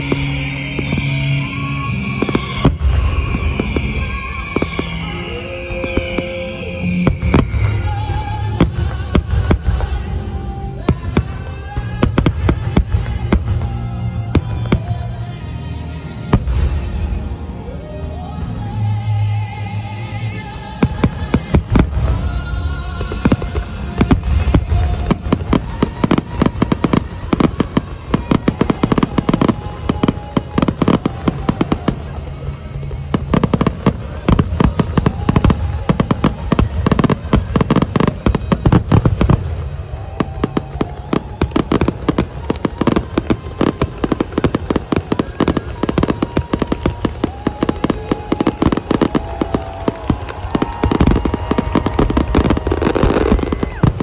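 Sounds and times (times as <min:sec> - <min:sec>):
fireworks banging and crackling: 0:00.0 - 0:15.5, 0:16.1 - 0:17.5, 0:20.0 - 0:54.0
orchestral music: 0:00.0 - 0:54.0.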